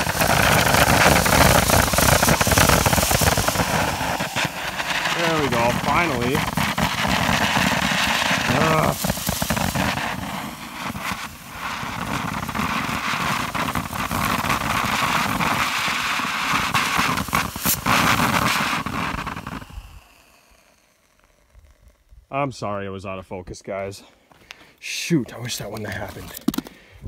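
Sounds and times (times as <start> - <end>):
firework fountain hissing and crackling: 0.0 - 22.3.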